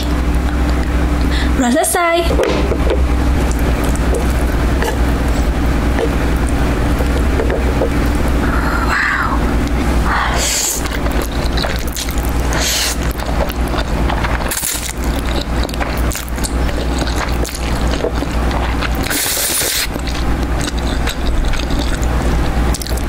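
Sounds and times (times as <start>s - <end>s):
steady low rumble: 0.0s - 23.0s
noodle slurping and chewing: 3.4s - 23.0s.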